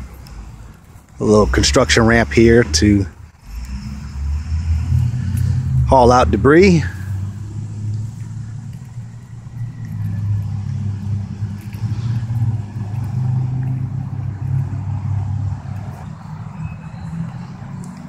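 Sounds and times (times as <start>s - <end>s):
motor engine rumbling: 0.0s - 18.0s.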